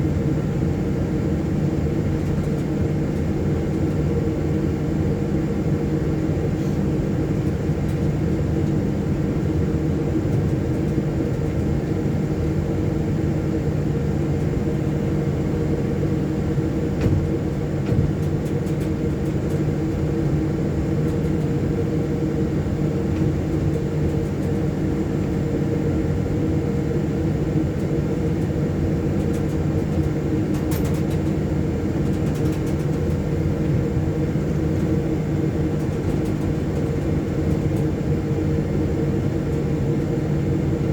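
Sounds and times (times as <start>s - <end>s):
jet engine drone in cockpit: 0.0s - 40.9s.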